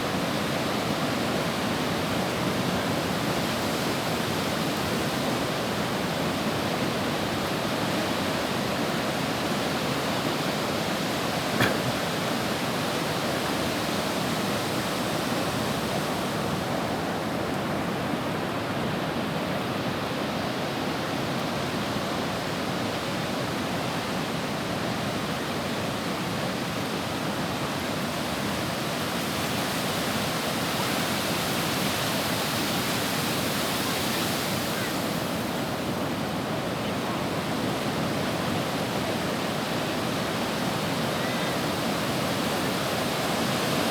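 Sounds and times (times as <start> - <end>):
sea surf washing on beach: 0.0 - 43.9.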